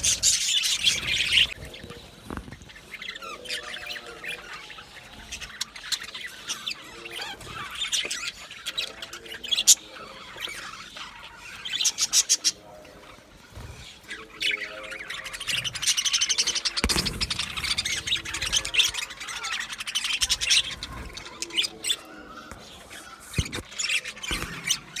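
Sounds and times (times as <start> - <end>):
budgies chattering: 0.0 - 25.0.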